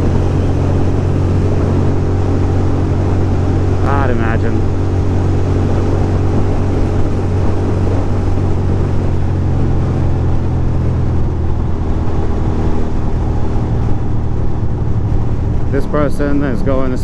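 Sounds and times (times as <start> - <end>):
motorcycle engine cruising: 0.0 - 17.0
wind rush over microphone: 0.0 - 17.0.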